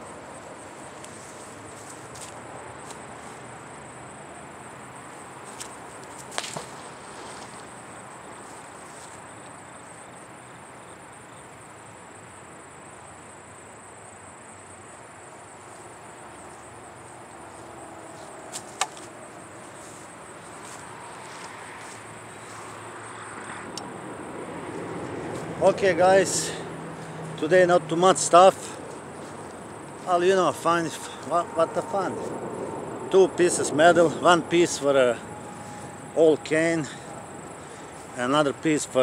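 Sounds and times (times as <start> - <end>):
high insect chirring: 0.0 - 39.0.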